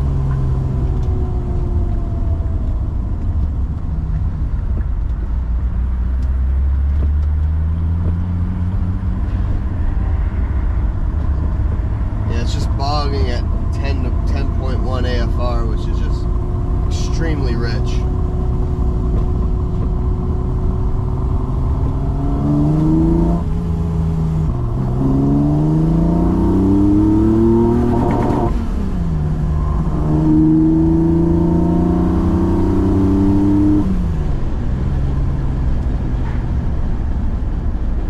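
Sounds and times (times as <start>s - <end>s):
car engine accelerating through gears: 0.0s - 38.0s.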